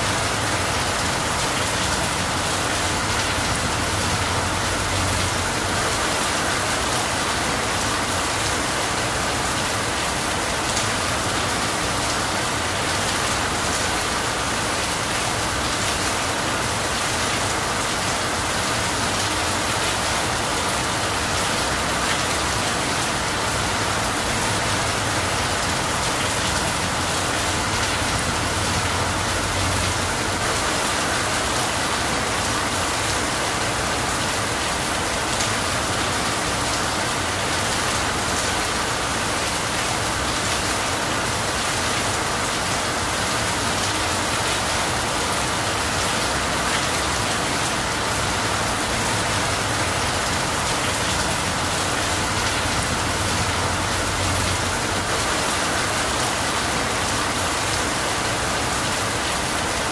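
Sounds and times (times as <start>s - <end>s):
heavy rain on leafy trees: 0.0s - 59.9s.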